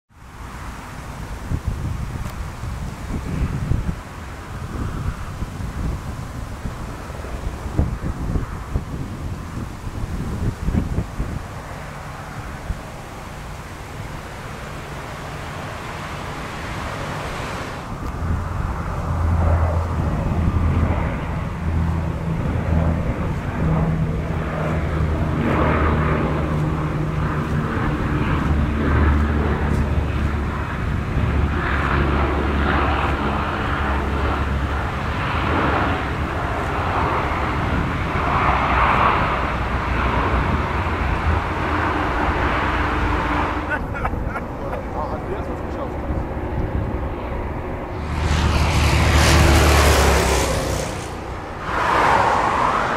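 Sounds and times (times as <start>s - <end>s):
turboprop engines droning: 0.1s - 52.9s.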